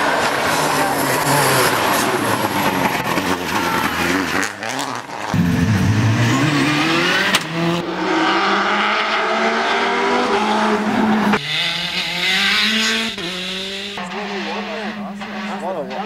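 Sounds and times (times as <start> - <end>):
rally car engines revving high: 0.0 - 16.0.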